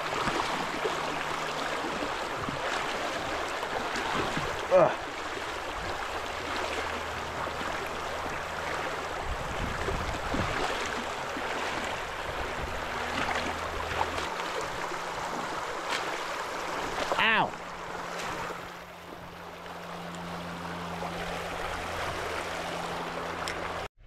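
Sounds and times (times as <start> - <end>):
water rushing over rocks: 0.0 - 23.9.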